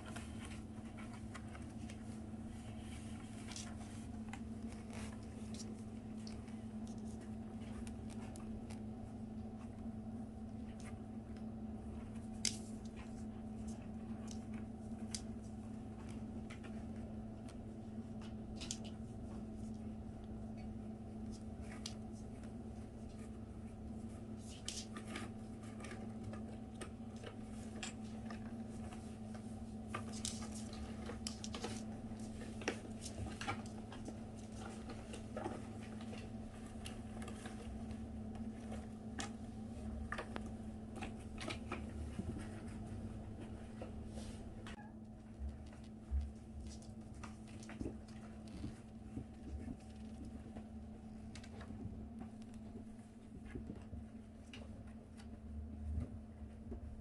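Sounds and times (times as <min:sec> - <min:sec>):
low electrical hum: 0:00.0 - 0:57.0
soft clicks and rustles: 0:00.0 - 0:57.0.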